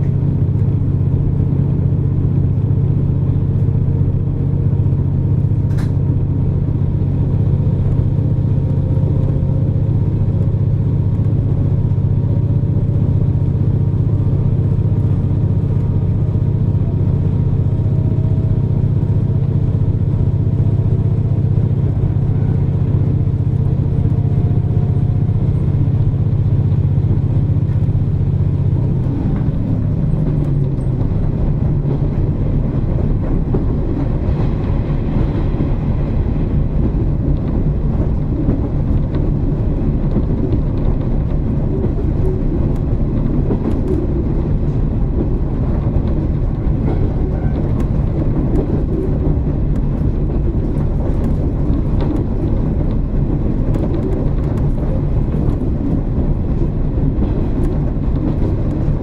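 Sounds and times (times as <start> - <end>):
railcar engine drone: 0.0 - 59.0.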